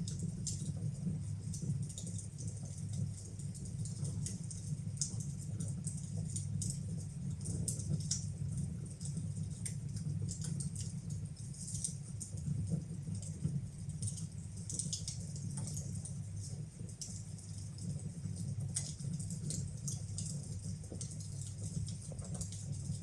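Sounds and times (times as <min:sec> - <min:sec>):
fire low rumble: 0:00.0 - 0:23.0
wood fire crackling and popping: 0:00.0 - 0:23.0.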